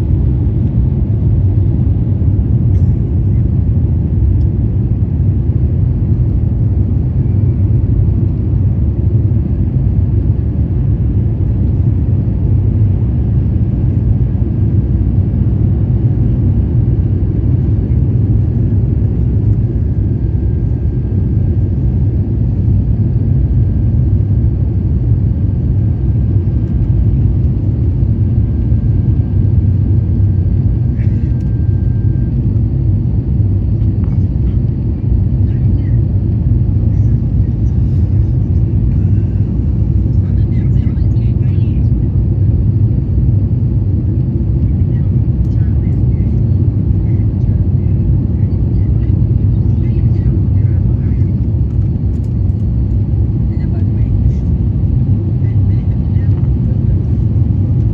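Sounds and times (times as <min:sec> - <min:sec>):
aircraft cabin engine rumble: 0:00.0 - 0:57.9.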